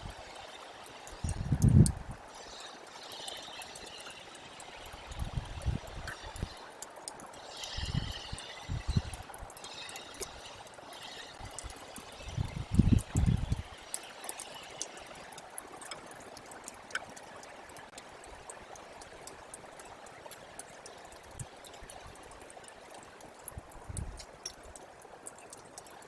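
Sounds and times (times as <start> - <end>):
faint ticks: 0.0 - 26.0
meltwater trickling: 0.0 - 26.0.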